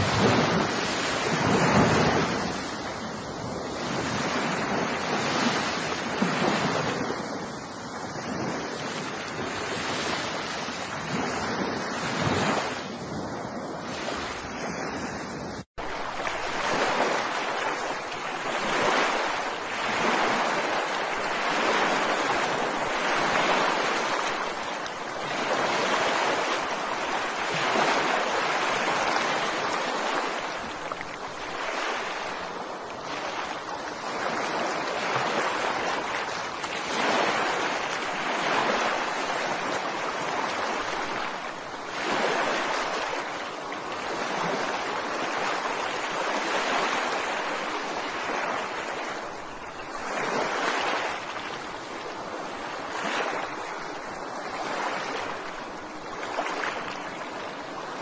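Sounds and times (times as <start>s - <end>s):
ocean waves on a beach: 0.0s - 58.0s.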